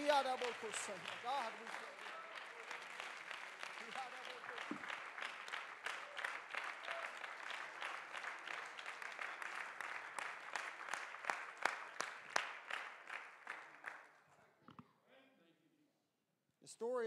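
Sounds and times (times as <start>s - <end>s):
congregation applauding: 0.0s - 14.3s.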